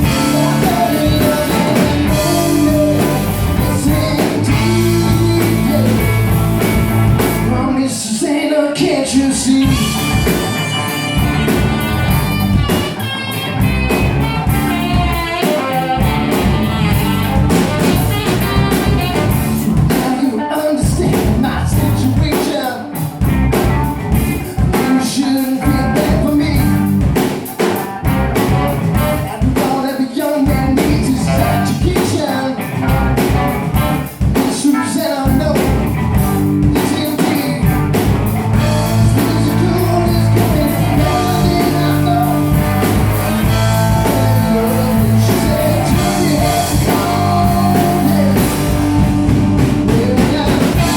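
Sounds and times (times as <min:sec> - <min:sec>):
steady drum beat: 0:00.0 - 0:07.7, 0:09.5 - 0:50.9
person singing: 0:00.0 - 0:11.3, 0:14.0 - 0:23.1, 0:23.8 - 0:37.9, 0:38.6 - 0:50.9
rock guitar: 0:00.0 - 0:50.9.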